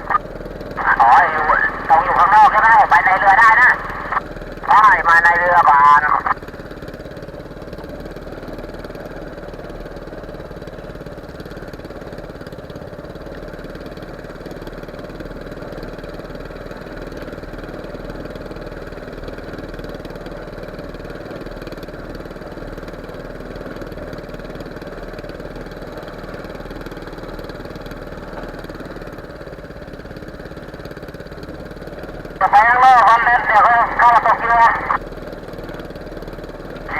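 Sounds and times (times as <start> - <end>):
boat engine running: 0.0 - 36.9.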